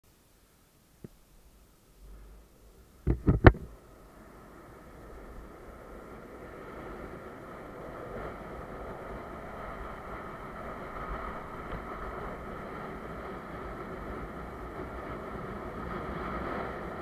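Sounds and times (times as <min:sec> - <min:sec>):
longboard wheels rolling on asphalt: 0:01.0 - 0:17.0
wind buffeting microphone: 0:02.0 - 0:17.0.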